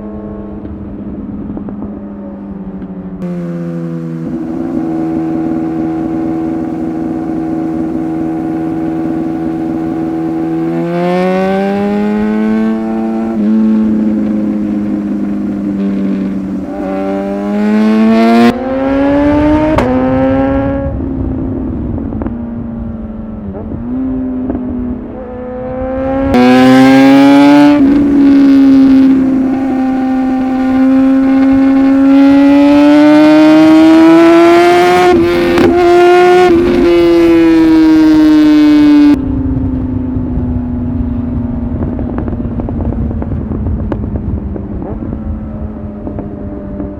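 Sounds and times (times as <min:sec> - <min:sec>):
motorcycle engine accelerating: 0:00.0 - 0:46.9
wind rushing past microphone: 0:00.0 - 0:46.9.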